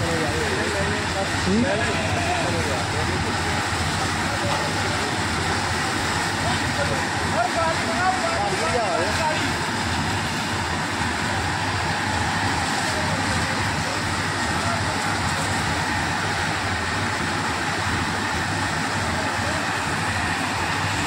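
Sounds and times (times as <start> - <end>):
fire hoses spraying water: 0.0 - 21.0.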